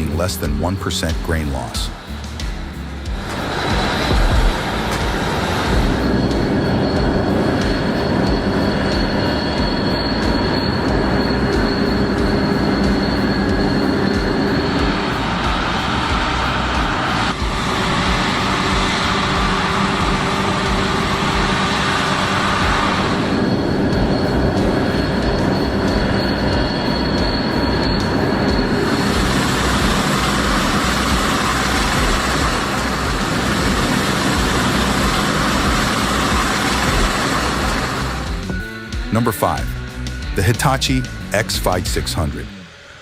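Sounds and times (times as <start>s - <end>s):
combine harvester rumbling: 0.0s - 43.0s
thin high whine: 0.0s - 43.0s.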